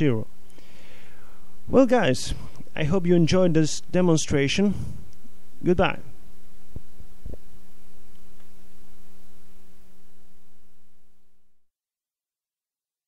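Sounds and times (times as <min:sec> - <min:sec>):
electrical hum with faint hiss: 0:00.0 - 0:11.6.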